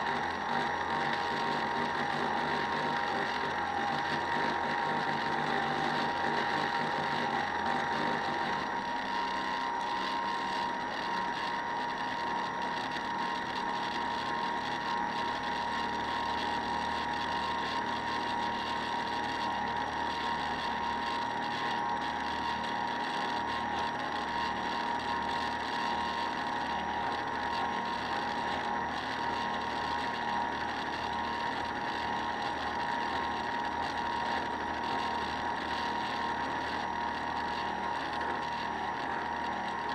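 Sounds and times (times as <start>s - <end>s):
model boat motor whining: 0.0s - 39.9s.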